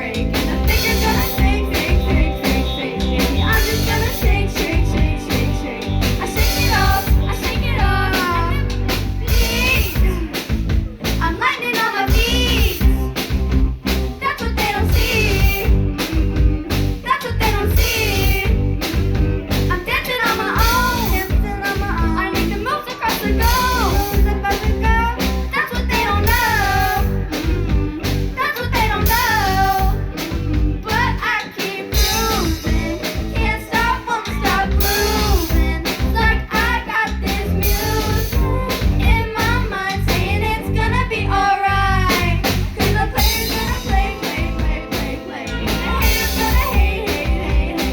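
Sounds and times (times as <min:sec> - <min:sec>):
person singing: 0:00.0 - 0:10.5, 0:11.2 - 0:13.2, 0:14.2 - 0:19.0, 0:19.7 - 0:47.9
drum kit beat: 0:00.0 - 0:41.2, 0:41.9 - 0:47.9
guitar and bass: 0:00.0 - 0:47.9.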